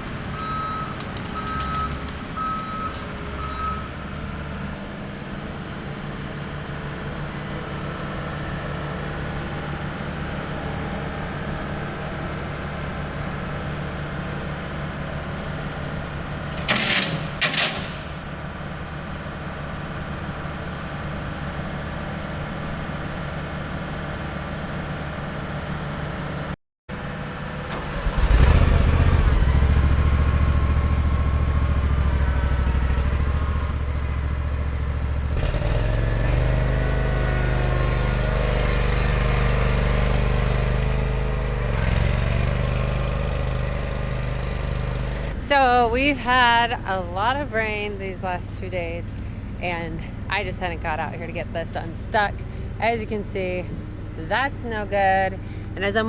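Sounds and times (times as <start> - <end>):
skid steer engine running: 0.0 - 56.0.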